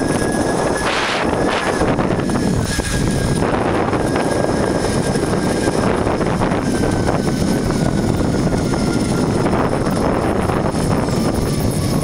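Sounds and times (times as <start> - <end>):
wind on microphone: 0.0 - 12.0
zipline trolley whirring on cable: 0.0 - 12.0.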